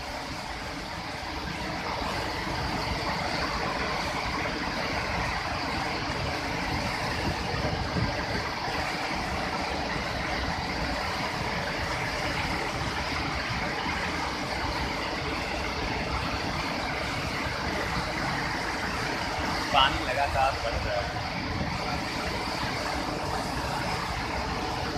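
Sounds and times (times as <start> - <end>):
waterfall rushing over rocks: 0.0 - 24.9.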